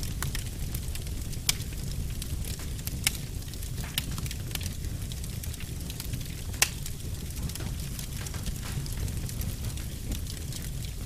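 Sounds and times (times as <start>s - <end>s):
log fire crackling and popping: 0.0s - 11.0s.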